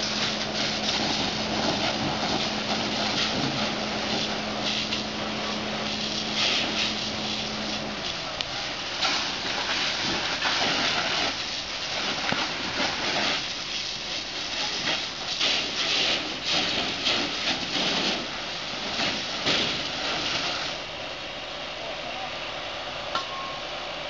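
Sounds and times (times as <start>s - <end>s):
fire hose spraying water: 0.0s - 23.1s.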